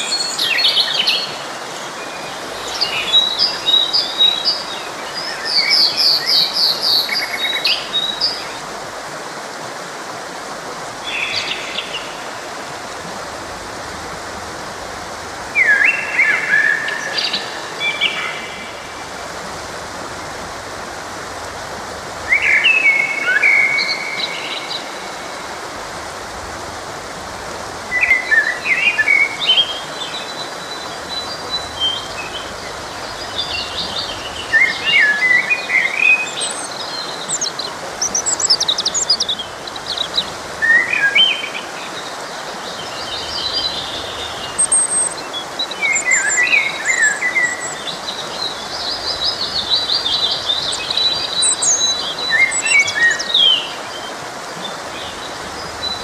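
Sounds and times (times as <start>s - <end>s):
songbirds chirping: 0.0s - 9.5s, 10.9s - 56.0s
flowing forest stream: 0.0s - 56.0s.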